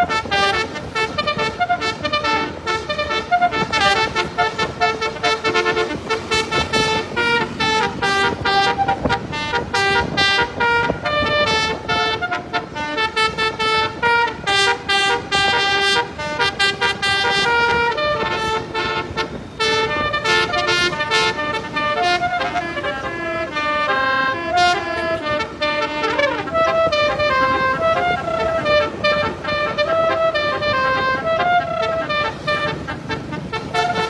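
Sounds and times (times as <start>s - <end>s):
musical air horn playing a tune: 0.0s - 34.0s.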